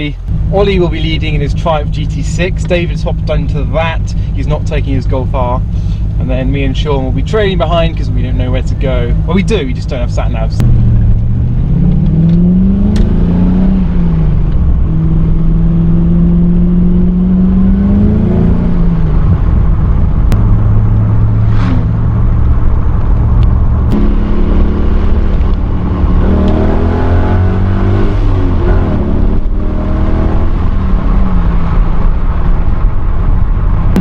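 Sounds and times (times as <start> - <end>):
road noise rumble: 0.0 - 34.0
car engine accelerating through gears: 0.2 - 34.0.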